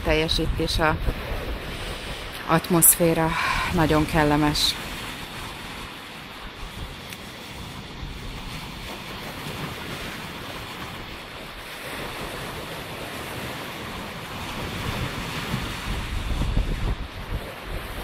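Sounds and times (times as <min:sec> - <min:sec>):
wind buffeting microphone: 0:00.0 - 0:18.0
waves washing over stones: 0:00.1 - 0:18.0.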